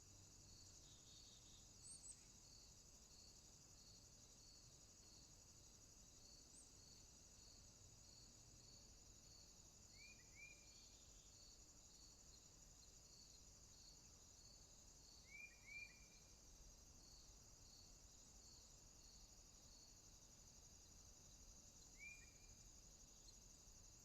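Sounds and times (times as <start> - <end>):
high insect chorus: 0.0 - 24.0.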